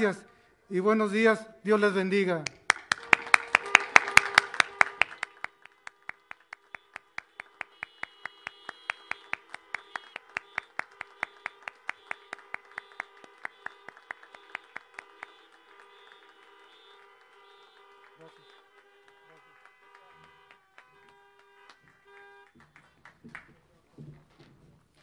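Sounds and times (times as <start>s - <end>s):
group clapping hands: 2.4s - 23.9s.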